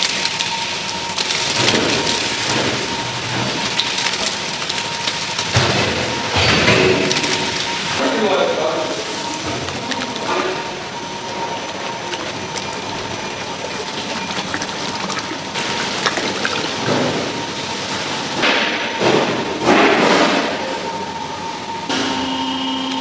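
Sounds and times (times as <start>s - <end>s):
machinery humming: 0.0s - 23.0s.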